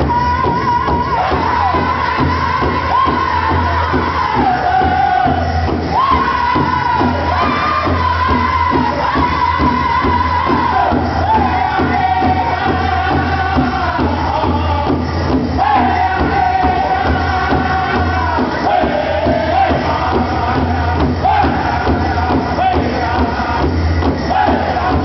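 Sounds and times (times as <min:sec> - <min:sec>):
steady drum beat: 0:00.0 - 0:25.0
voices singing in unison: 0:00.0 - 0:25.0.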